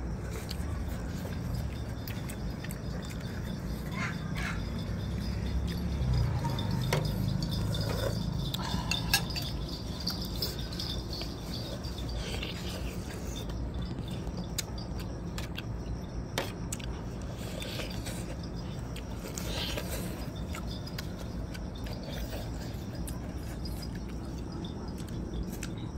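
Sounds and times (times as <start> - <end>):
chewing: 0.0 - 25.9
steady low hum: 0.0 - 25.9.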